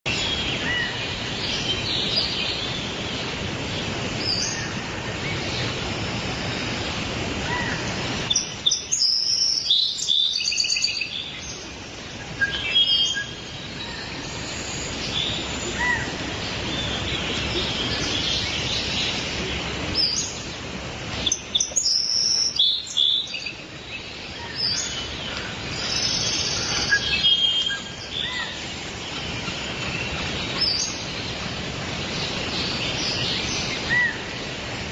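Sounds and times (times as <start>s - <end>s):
birds chirping and calling: 0.1s - 34.6s
steady background hiss: 0.1s - 34.9s.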